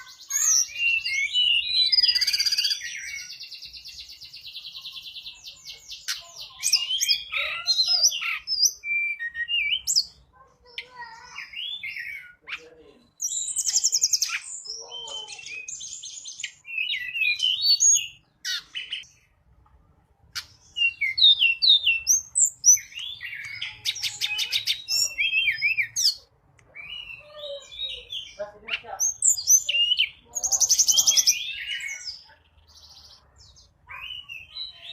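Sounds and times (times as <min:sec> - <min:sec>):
bird chirps and trills: 0:00.0 - 0:19.4, 0:20.2 - 0:34.9.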